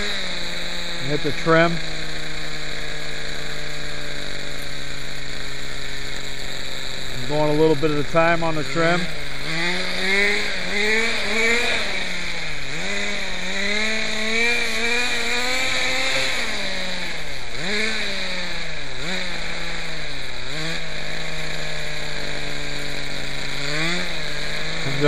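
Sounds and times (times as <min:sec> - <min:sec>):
model helicopter engine running: 0:00.0 - 0:25.0.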